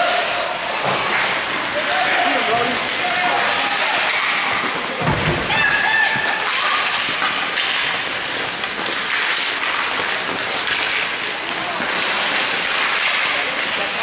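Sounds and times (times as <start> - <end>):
skate blades scraping ice: 0.0 - 14.0.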